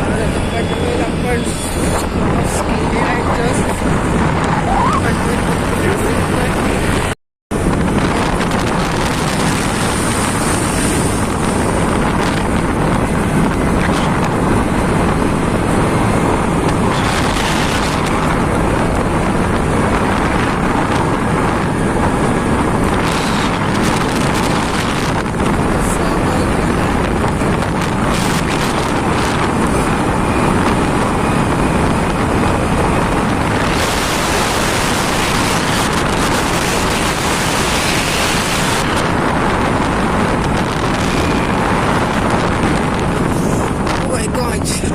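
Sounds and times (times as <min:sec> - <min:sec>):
road noise: 0:00.0 - 0:44.9
wind rushing over microphone: 0:00.0 - 0:44.9.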